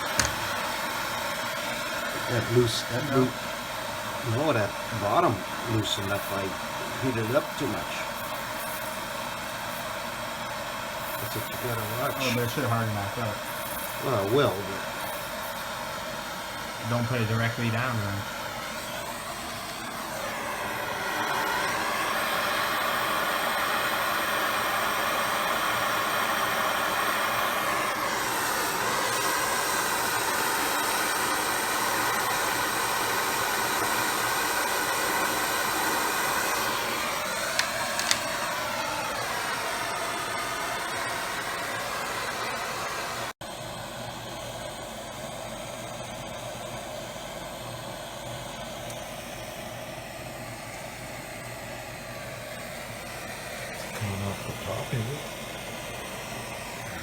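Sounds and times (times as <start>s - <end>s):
torch flame hissing: 0.0s - 57.0s.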